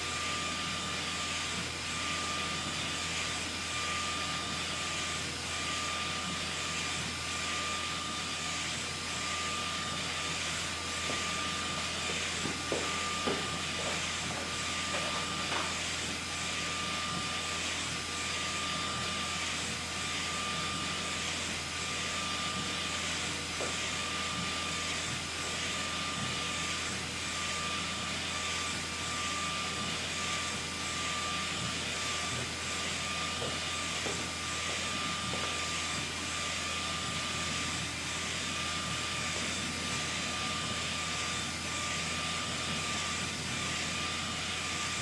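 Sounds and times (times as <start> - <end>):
printer low hum: 0.0 - 45.0
printer running with hiss and whine: 0.0 - 45.0.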